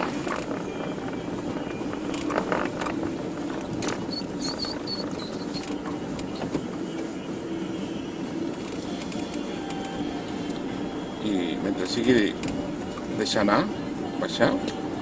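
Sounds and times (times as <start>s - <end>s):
engine idling inside cabin: 0.0s - 15.0s.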